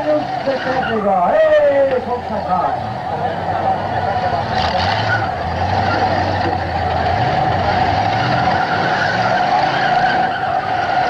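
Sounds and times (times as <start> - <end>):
car engines running hard: 0.0 - 11.0.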